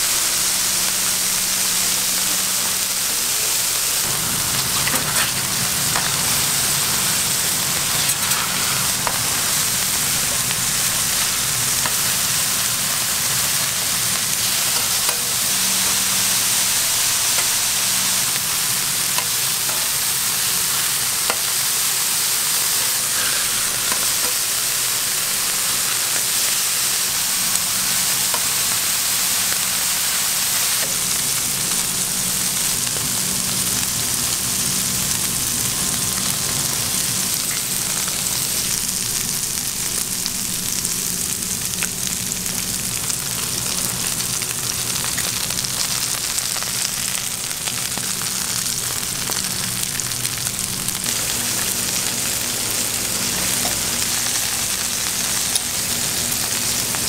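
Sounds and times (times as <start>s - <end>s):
burger patties sizzling on griddle: 0.0s - 57.0s.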